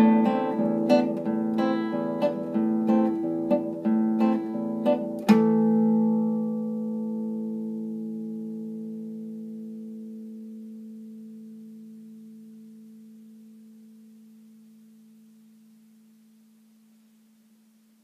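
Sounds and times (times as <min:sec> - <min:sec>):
classical guitar chord ringing: 0:00.0 - 0:16.8.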